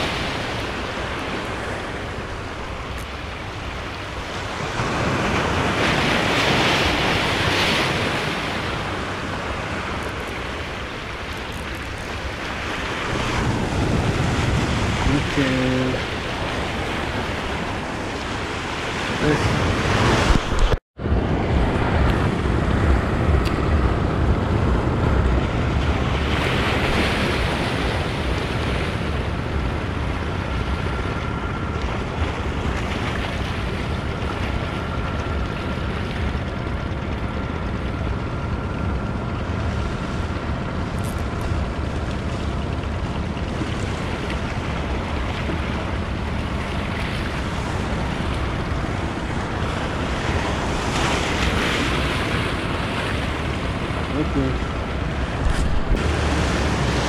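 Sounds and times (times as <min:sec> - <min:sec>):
sea waves washing against rocks: 0:00.0 - 0:57.0
wind buffeting microphone: 0:00.0 - 0:57.0.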